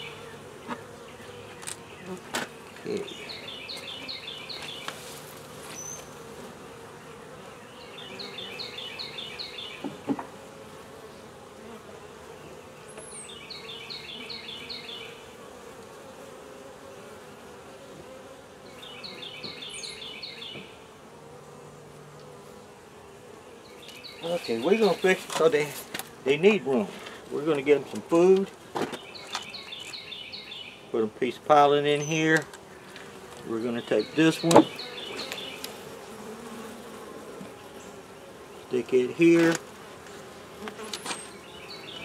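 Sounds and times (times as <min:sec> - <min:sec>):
honey bees buzzing: 0:00.0 - 0:42.0.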